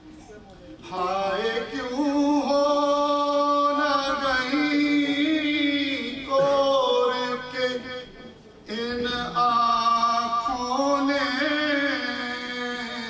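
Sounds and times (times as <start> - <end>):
man chanting: 0.9 - 13.0.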